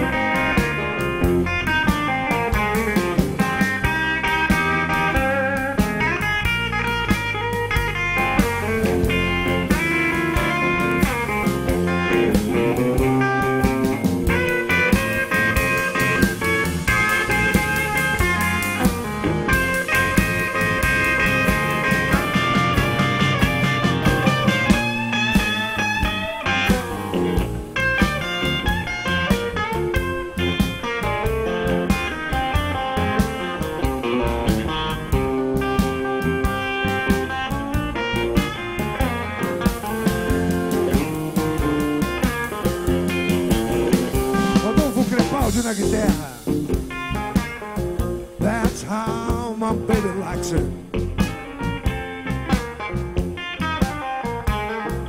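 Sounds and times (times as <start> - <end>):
drum kit: 0.0 - 55.0
electric guitar played note by note: 0.0 - 55.0
low bass notes: 0.0 - 55.0.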